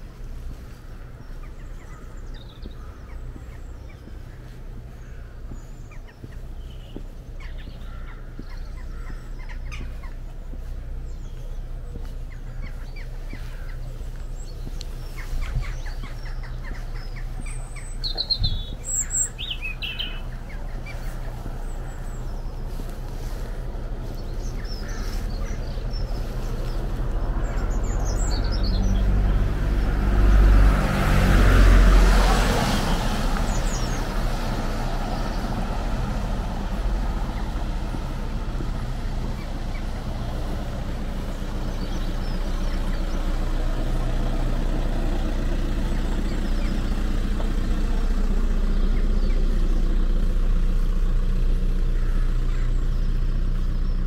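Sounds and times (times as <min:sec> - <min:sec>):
birds chirping: 0:00.0 - 0:54.0
vehicle engine humming: 0:00.0 - 0:54.0.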